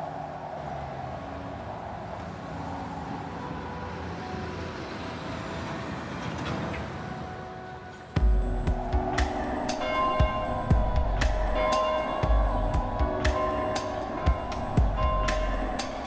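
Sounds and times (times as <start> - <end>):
cars and buses driving past: 0.0 - 16.0.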